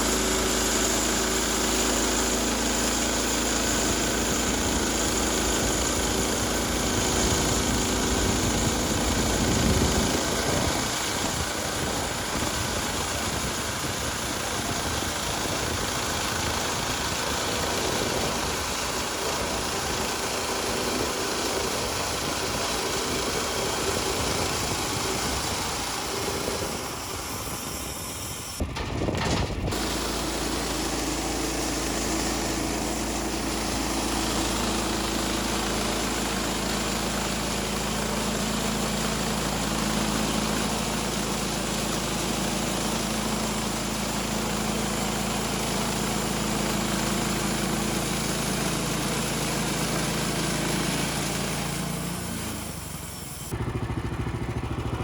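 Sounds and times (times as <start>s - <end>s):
saw blade cutting log: 0.0s - 53.6s
small gasoline engine running: 0.0s - 55.0s.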